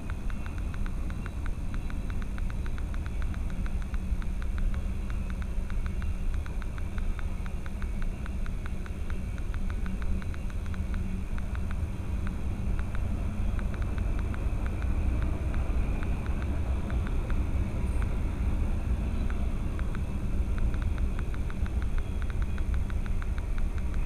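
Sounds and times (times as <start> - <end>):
faint hum: 0.0 - 24.0
rapid even ticking: 0.0 - 24.0
vehicle rumble: 0.0 - 24.0.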